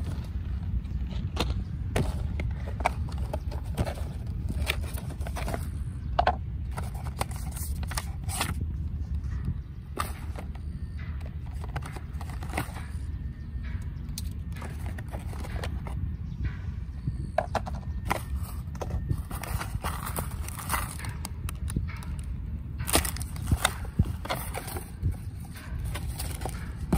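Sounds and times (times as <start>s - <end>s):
taps clicks and rustles: 0.0s - 16.6s, 17.4s - 26.9s
steady low rumble: 0.0s - 26.9s
packaging being handled and opened: 1.4s - 9.2s, 9.9s - 13.1s, 14.2s - 16.0s, 17.4s - 26.9s.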